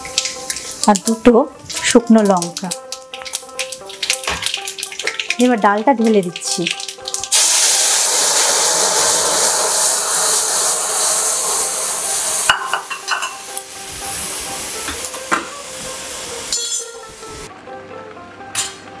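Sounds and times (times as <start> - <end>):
food sizzling in hot oil: 0.0 - 17.5.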